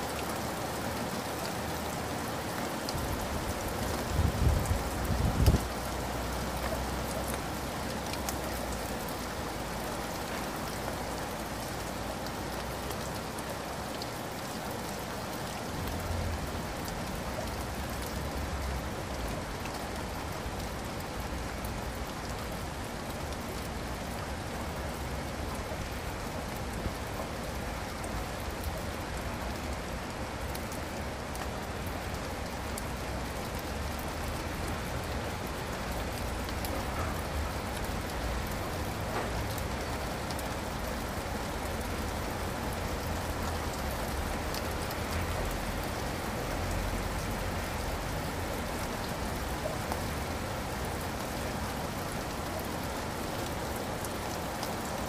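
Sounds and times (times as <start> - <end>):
steady rain hiss: 0.0 - 55.0
raindrop ticks: 0.1 - 24.6, 25.2 - 51.6.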